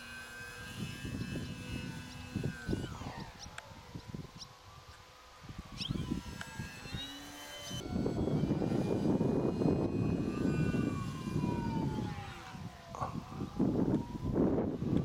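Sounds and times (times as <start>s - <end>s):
model plane motor whining: 0.0s - 15.0s
wind buffeting microphone: 0.3s - 15.0s.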